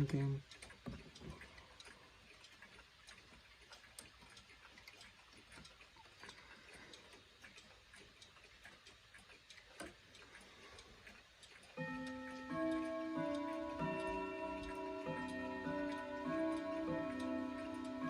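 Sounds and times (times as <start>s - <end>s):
clocks ticking faintly: 0.0s - 18.0s.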